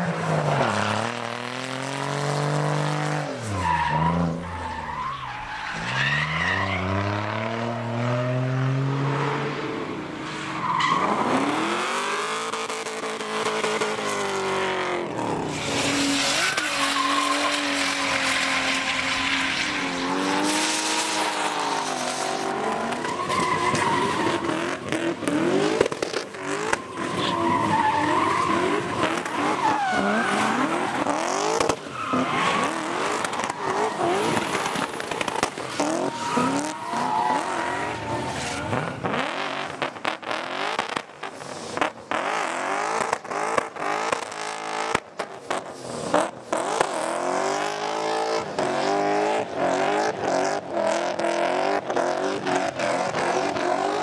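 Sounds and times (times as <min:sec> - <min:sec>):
car engines revving hard: 0:00.0 - 0:04.6, 0:05.7 - 0:54.0.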